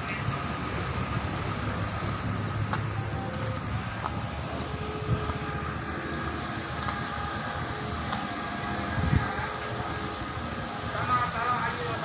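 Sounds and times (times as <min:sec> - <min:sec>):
distant machine rumble: 0:00.1 - 0:12.0.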